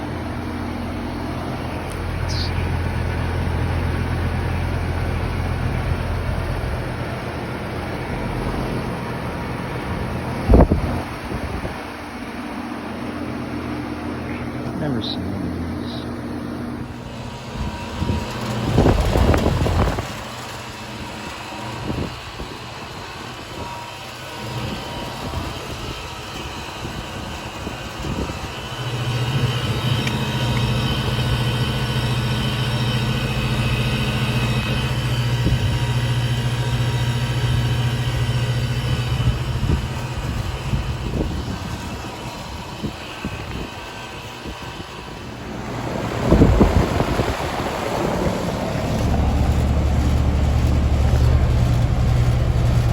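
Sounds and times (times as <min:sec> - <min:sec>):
heat pump fan and compressor hum: 0:00.0 - 0:52.9.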